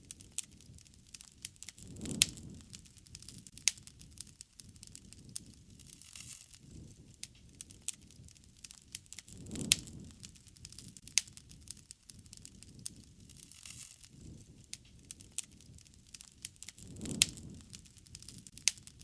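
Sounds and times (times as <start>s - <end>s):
campfire crackling: 0.0s - 19.0s
low rush of flame: 0.0s - 19.0s.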